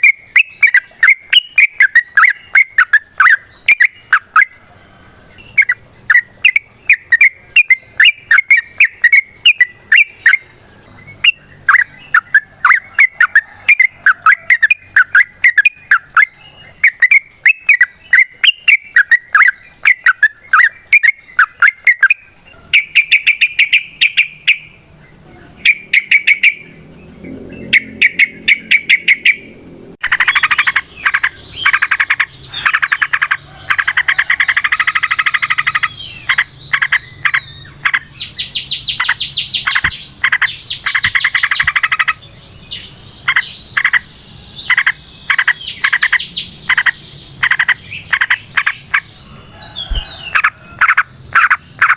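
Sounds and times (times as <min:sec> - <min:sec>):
bulbul chirping and trilling: 0:00.0 - 0:04.7, 0:05.4 - 0:49.2, 0:49.8 - 0:51.9
harsh fast-pulsing bird call: 0:00.0 - 0:51.9.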